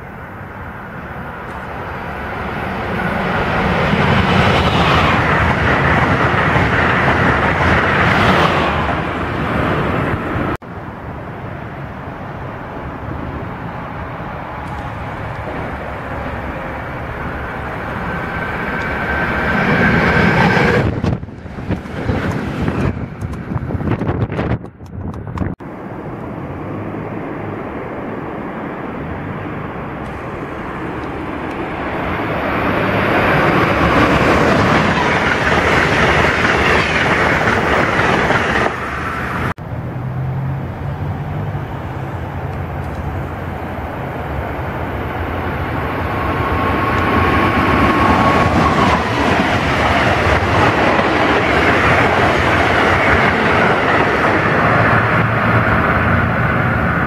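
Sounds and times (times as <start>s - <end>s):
passenger train passing: 0.0s - 57.0s.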